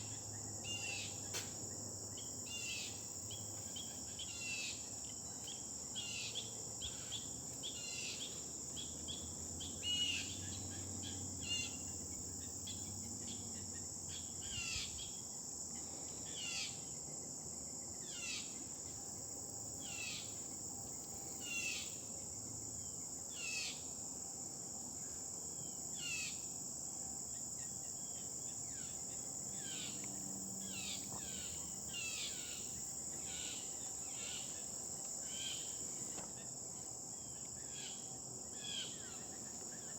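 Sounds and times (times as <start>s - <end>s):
crickets and insects droning: 0.0s - 39.9s.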